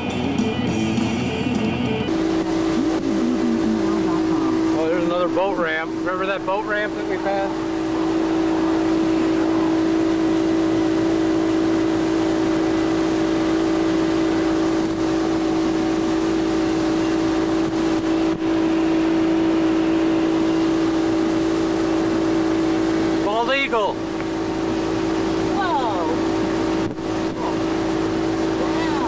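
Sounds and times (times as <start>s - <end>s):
boat engine droning: 0.0s - 29.0s
wind and water hiss: 2.1s - 29.0s.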